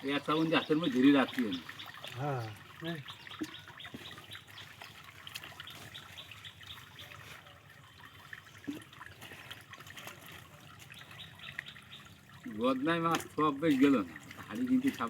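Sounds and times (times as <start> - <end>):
shallow water splashing and dripping: 0.0 - 15.0.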